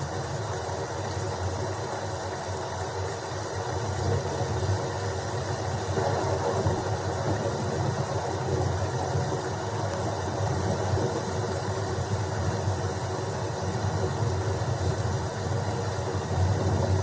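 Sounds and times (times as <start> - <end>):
continuous low rumble: 0.0 - 17.0
steady rain: 0.0 - 17.0.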